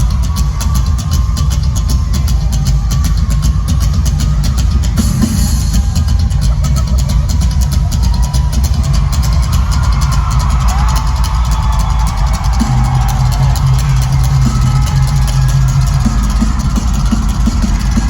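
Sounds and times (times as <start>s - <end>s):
live rock band music: 0.0s - 18.0s.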